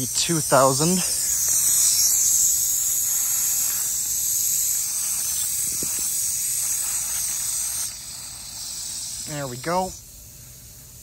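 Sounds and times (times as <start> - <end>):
sprinkler spraying water: 0.0 - 11.0.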